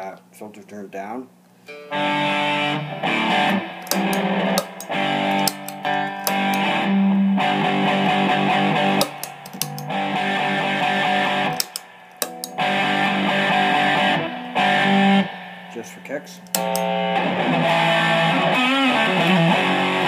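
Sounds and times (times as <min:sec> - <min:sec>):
distorted electric guitar chords: 0:01.7 - 0:20.0.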